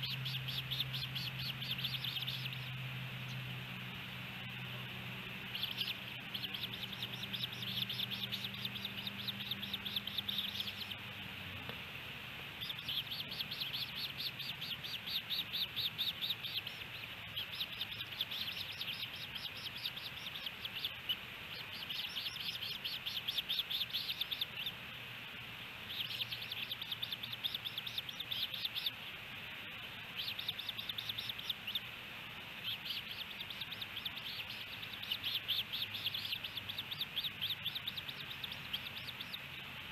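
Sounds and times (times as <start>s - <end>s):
ospreys chirping: 0.0s - 39.9s.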